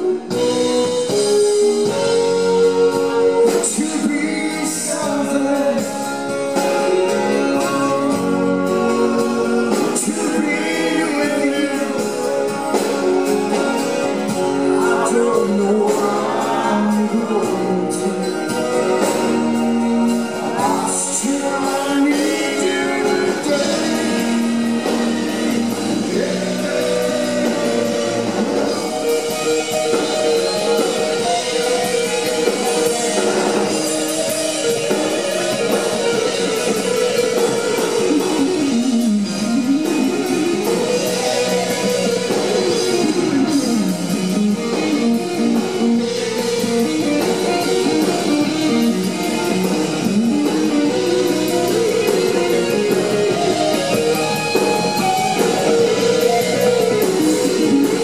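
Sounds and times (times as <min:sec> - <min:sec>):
drums: 0:00.0 - 0:58.0
electric guitar bending notes: 0:00.0 - 0:58.0.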